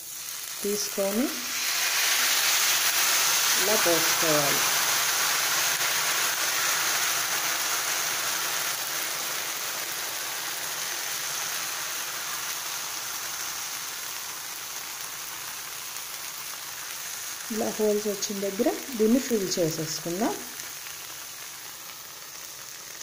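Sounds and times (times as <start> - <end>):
batter sizzling on a hot griddle: 0.0 - 23.0.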